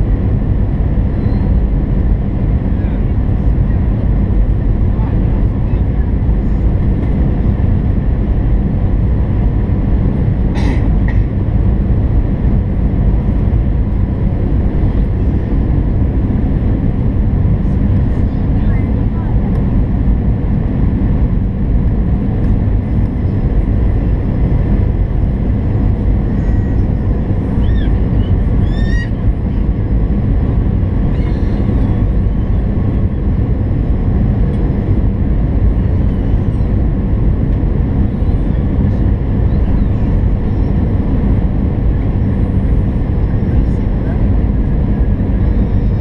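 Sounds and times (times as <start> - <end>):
jet engine rumble: 0.0 - 46.0.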